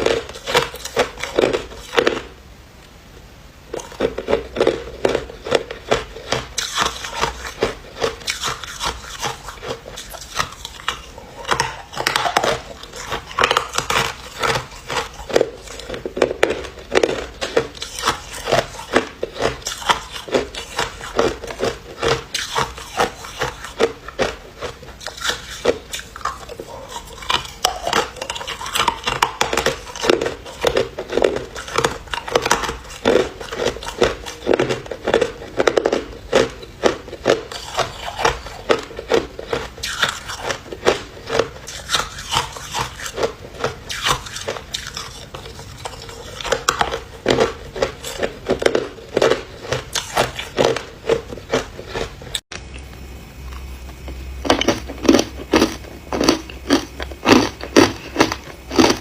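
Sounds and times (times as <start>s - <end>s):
person chewing ice: 0.0s - 2.4s, 3.7s - 59.0s.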